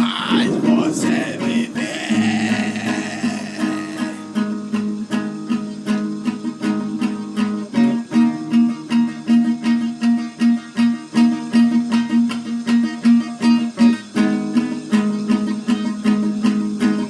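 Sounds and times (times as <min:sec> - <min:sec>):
guitar picking plucked notes: 0:00.0 - 0:17.0.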